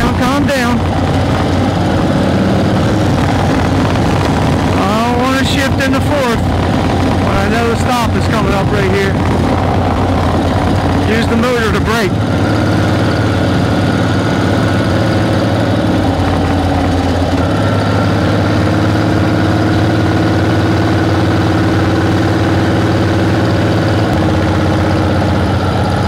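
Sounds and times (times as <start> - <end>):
motorcycle engine running at low revs: 0.0 - 26.0.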